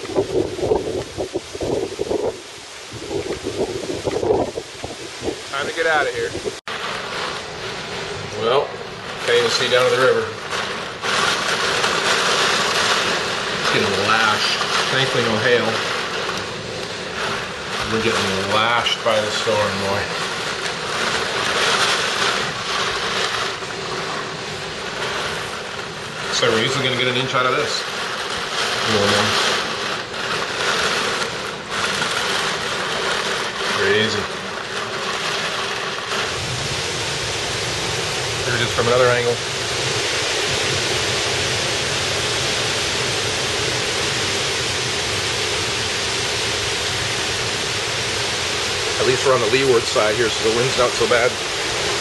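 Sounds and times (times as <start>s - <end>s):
heavy rain: 0.0s - 52.0s
strong wind: 0.0s - 52.0s.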